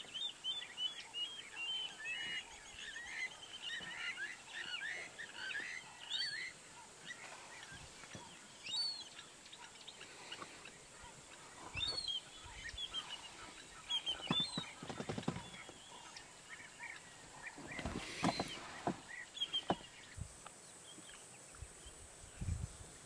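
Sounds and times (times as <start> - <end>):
birds chirping: 0.0 - 22.6.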